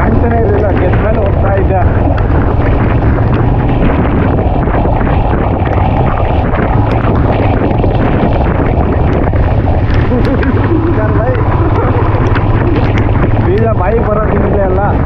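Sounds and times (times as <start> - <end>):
waterfall roaring: 0.0 - 14.7.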